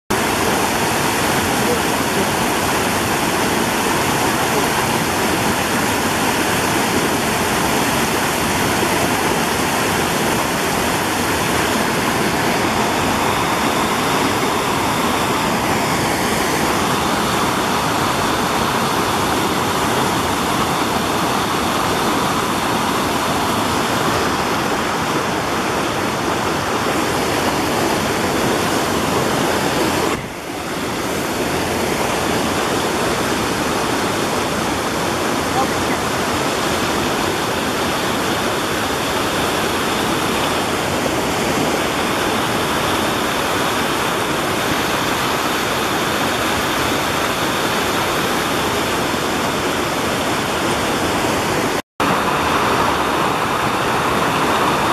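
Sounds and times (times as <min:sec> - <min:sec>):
brook rushing over rocks: 0:00.1 - 0:54.9.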